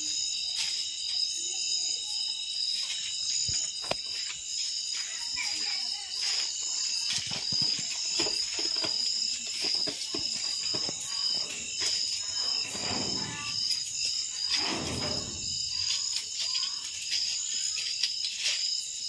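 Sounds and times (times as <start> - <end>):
night insects chirping: 0.0 - 19.0.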